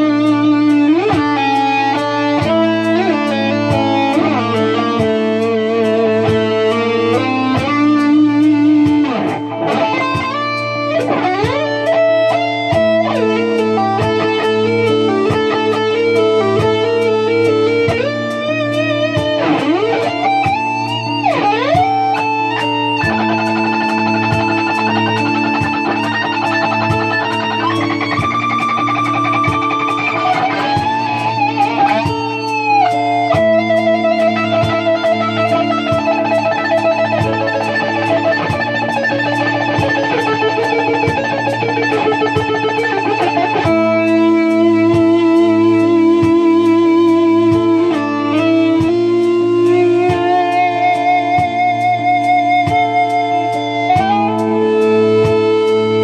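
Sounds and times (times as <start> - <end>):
ambient electric guitar: 0.0 - 56.0.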